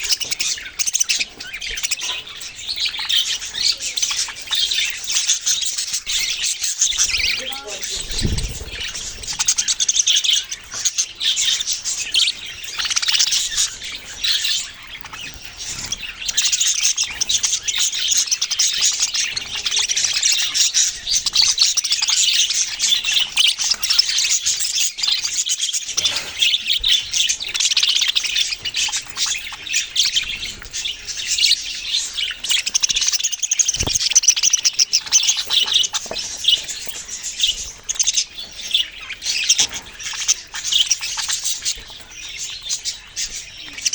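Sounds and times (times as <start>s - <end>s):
parrots chirping and chattering: 0.0s - 43.9s.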